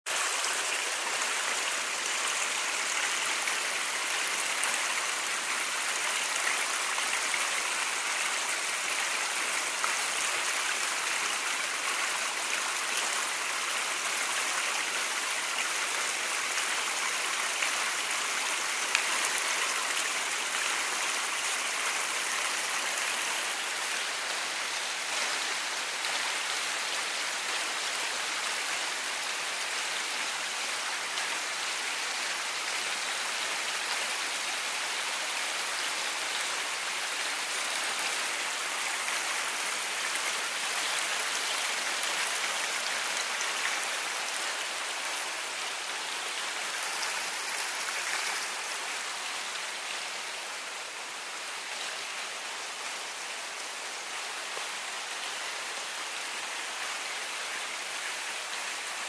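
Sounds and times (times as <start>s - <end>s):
stream splashing over waterfall: 0.1s - 59.0s.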